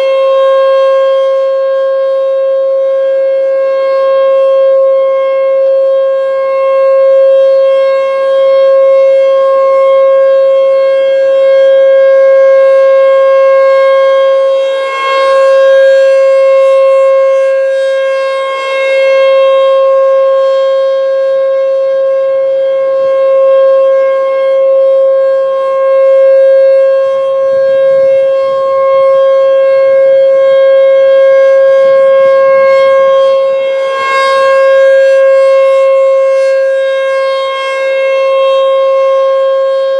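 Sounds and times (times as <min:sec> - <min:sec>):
rotating warning siren tone: 0:00.0 - 0:39.9.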